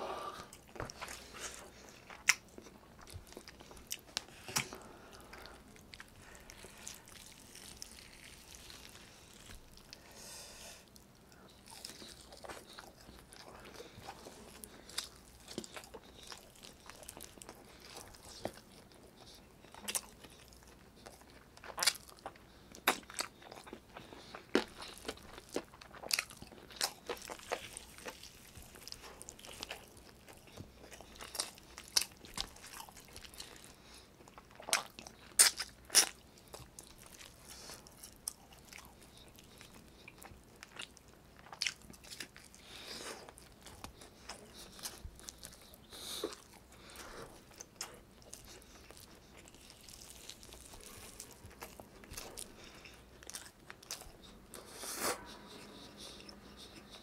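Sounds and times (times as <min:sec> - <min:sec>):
chewing and mouth noises: 0:00.3 - 0:10.1, 0:10.8 - 0:57.0.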